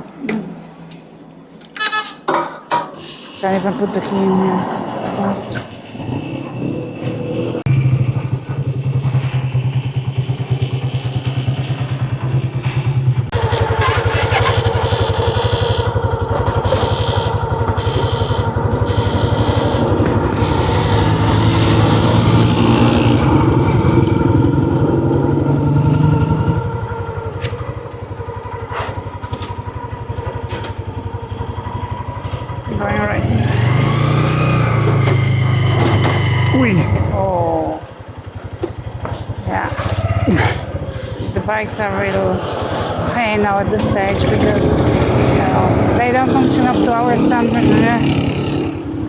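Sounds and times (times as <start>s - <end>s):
motorcycle engine running: 3.4s - 49.0s.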